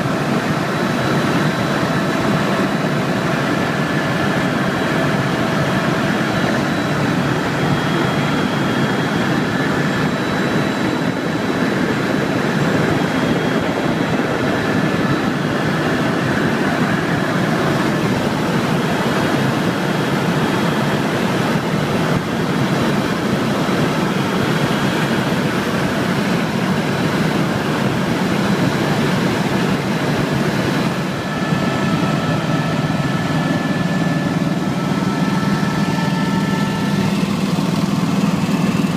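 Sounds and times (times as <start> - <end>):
helicopter running: 0.0 - 38.9.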